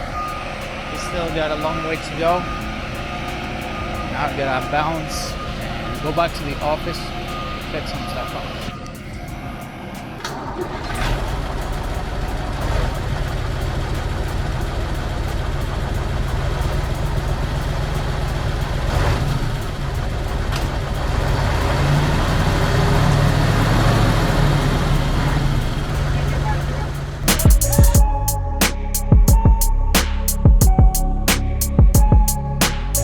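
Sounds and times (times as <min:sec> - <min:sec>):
vehicle engine deep hum: 0:00.0 - 0:33.0.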